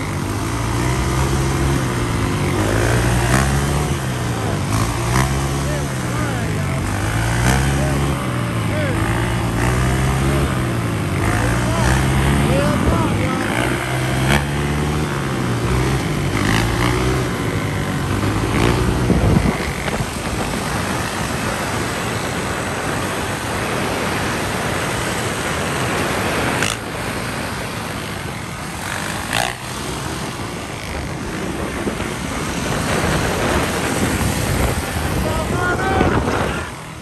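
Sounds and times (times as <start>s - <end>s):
dirt bike engines running: 0.0s - 37.0s
steady rushing noise: 0.0s - 37.0s.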